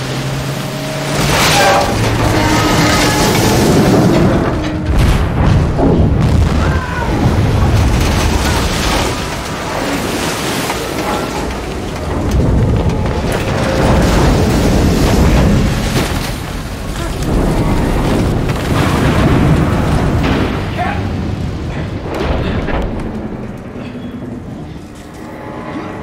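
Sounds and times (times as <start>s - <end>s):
heavy rain: 0.0s - 26.0s
surging waves: 0.0s - 26.0s
deep rumbling booms: 1.3s - 24.6s.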